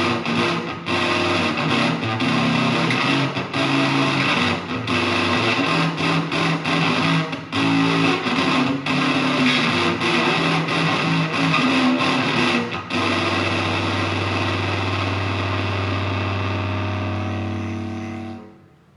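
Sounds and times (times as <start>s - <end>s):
fuzz electric guitar: 0.0s - 18.6s.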